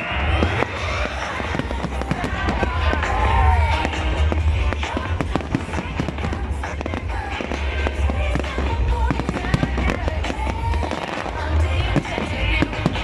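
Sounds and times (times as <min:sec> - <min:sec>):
fireworks cracking and banging: 0:00.0 - 0:13.0
music with heavy bass: 0:00.0 - 0:13.0.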